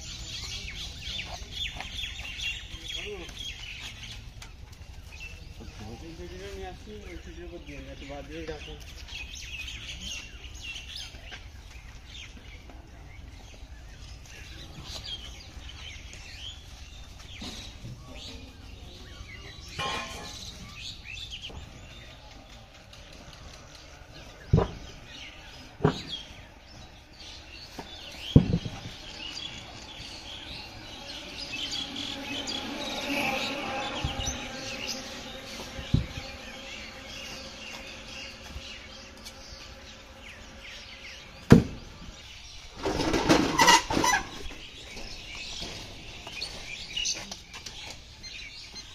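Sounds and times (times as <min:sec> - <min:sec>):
birds chirping faintly: 0:00.0 - 0:48.9.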